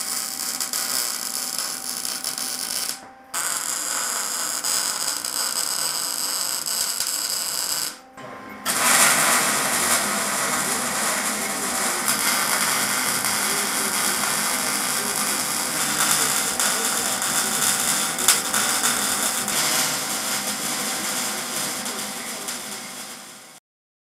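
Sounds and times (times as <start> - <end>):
welder crackling hiss: 0.0 - 8.0, 8.7 - 23.6.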